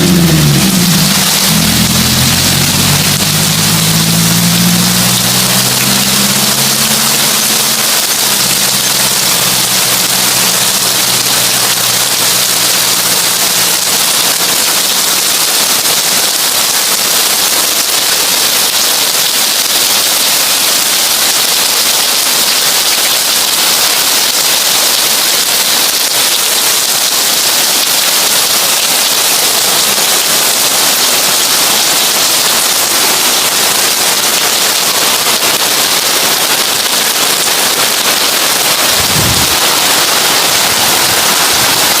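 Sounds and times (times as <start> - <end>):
heavy rain on a tin roof: 0.0 - 42.0.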